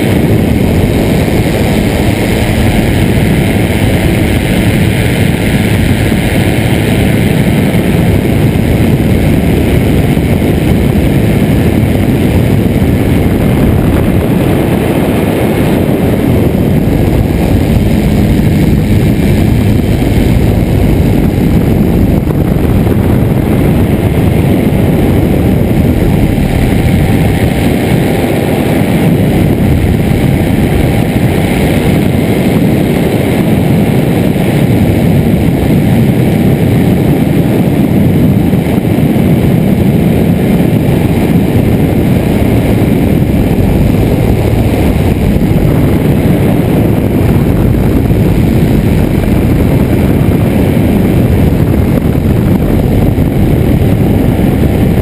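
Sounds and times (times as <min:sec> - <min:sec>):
aircraft engine and propeller: 0:00.0 - 0:55.0
wind rush: 0:00.0 - 0:55.0.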